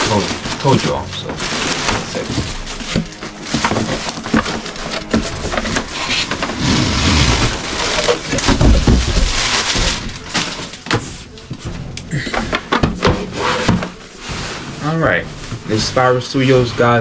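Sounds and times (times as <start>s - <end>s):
cardboard box scraping and rustling: 0.0s - 11.4s, 12.6s - 17.0s
cardboard rubbing: 0.0s - 11.7s, 12.5s - 17.0s.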